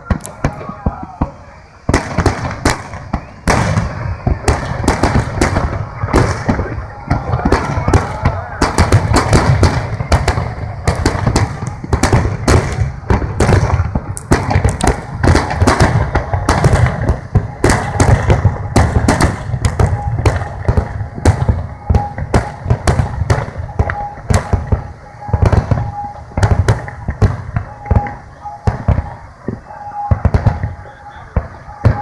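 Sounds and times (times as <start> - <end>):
fireworks booming and cracking: 0.0 - 32.0.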